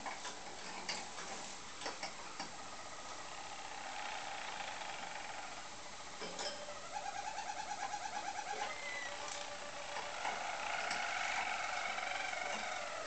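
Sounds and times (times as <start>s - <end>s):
canary rolling trills: 2.5s - 13.0s.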